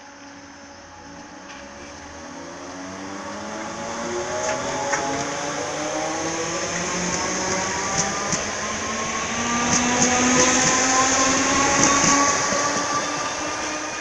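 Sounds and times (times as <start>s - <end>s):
electric train motors whining: 0.3s - 14.0s.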